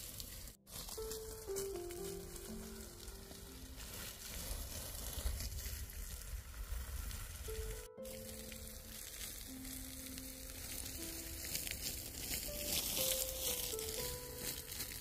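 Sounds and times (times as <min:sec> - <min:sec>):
soft background music: 0:00.7 - 0:05.4, 0:06.7 - 0:15.0.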